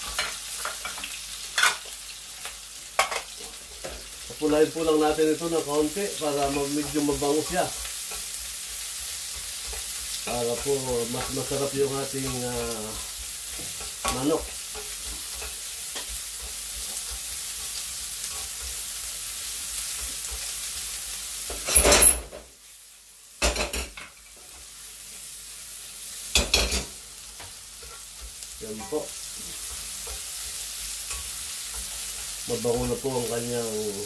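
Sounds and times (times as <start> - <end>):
onion sizzling in hot oil: 0.0 - 34.0.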